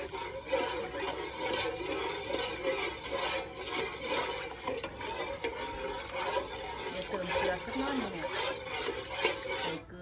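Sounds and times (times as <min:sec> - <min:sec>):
liquid sloshing: 0:00.0 - 0:09.9
metal ladle scraping pot: 0:00.0 - 0:10.0.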